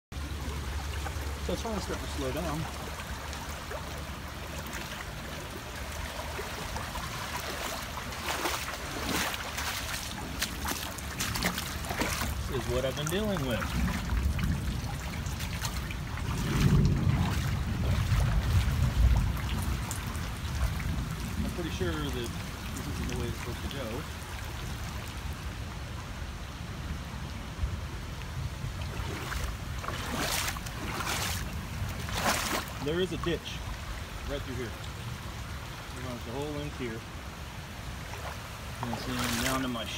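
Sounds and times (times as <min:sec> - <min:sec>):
water splashes: 0:00.1 - 0:26.0, 0:28.2 - 0:39.9
floodwater flowing: 0:00.1 - 0:39.9
wind rumble on microphone: 0:00.2 - 0:32.9.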